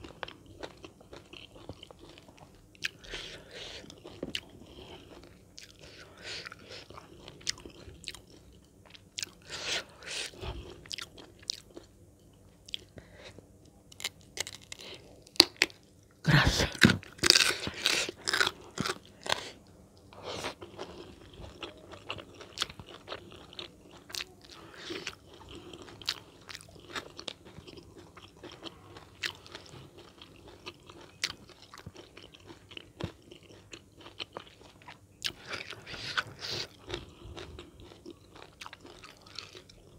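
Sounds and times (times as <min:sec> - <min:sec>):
person chewing crunchy food: 0:00.0 - 0:15.9, 0:16.6 - 0:39.9.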